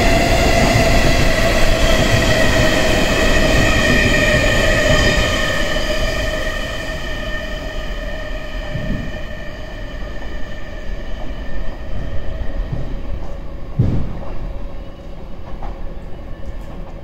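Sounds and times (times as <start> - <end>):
train whining and rumbling: 0.0 - 17.0.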